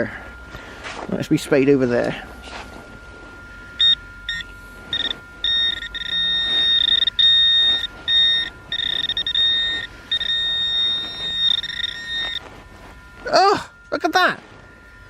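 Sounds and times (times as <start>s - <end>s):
metal detector beeping: 0.0s - 15.0s.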